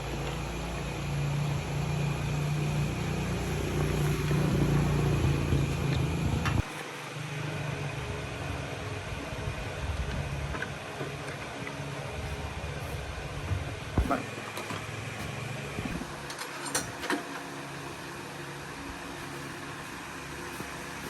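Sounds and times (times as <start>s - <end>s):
light mechanical hum: 0.0s - 21.0s
motor humming: 0.0s - 21.0s.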